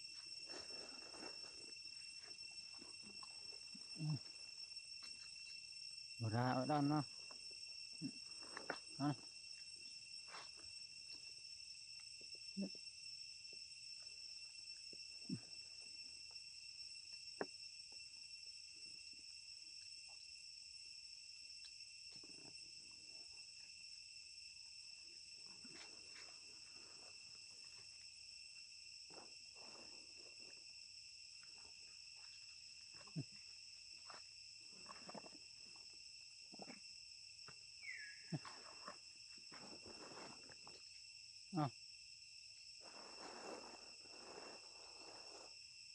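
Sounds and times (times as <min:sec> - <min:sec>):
high insect chorus: 0:00.0 - 0:45.9.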